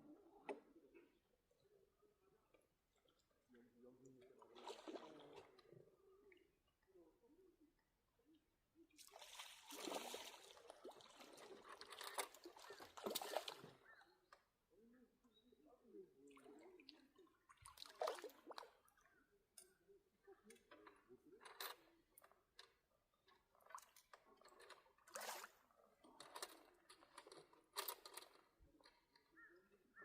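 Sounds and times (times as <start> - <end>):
faint water sloshing and splashing: 0.0 - 30.0.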